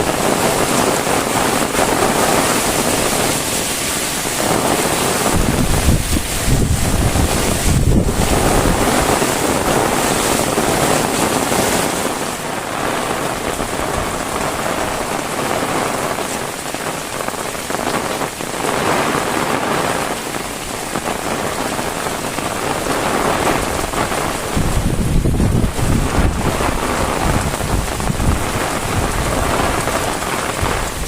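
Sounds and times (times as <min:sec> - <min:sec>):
heavy rain falling: 0:00.0 - 0:31.0
wind buffeting microphone: 0:00.0 - 0:31.0.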